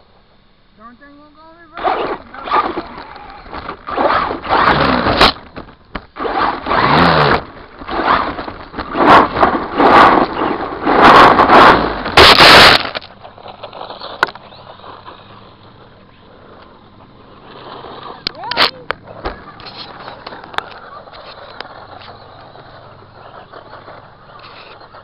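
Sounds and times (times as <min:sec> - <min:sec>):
rc truck tyres scraping rumble: 0:01.6 - 0:25.0.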